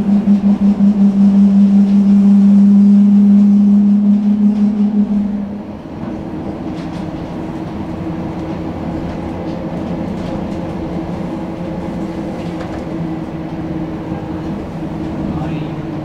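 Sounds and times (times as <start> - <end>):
steady hum: 0.0 - 16.0
tram wheels rumbling on rail: 0.0 - 16.0.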